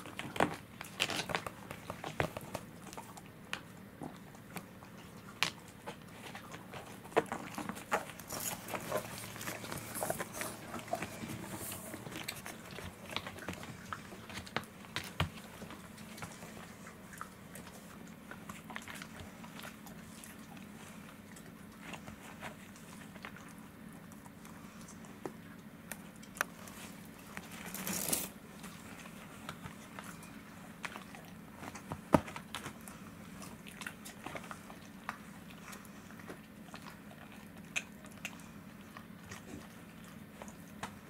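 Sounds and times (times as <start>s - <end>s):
dog gnawing rawhide chew: 0.0s - 41.0s.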